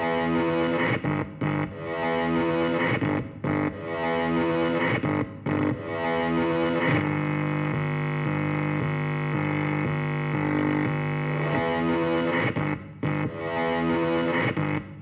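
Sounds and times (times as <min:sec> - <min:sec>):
distorted electric guitar: 0:00.0 - 0:15.0.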